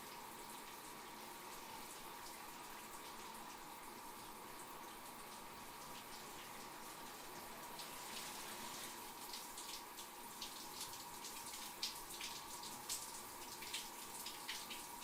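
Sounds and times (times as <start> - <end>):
shower water running: 0.0 - 15.0.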